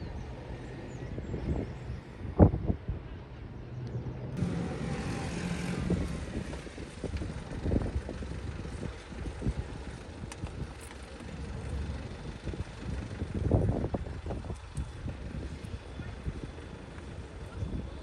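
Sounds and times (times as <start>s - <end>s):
wind on microphone: 0.0s - 3.4s, 4.4s - 18.0s
tractor engines rumbling: 0.0s - 18.0s.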